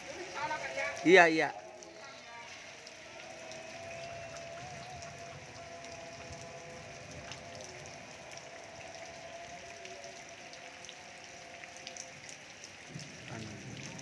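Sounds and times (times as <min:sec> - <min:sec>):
raindrops ticking close by: 0:00.0 - 0:14.0
steady rain falling: 0:00.0 - 0:14.0.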